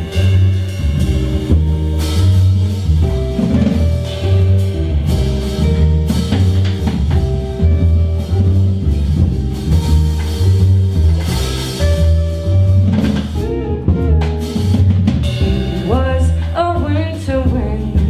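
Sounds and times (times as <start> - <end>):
jazz band playing: 0.0 - 18.0.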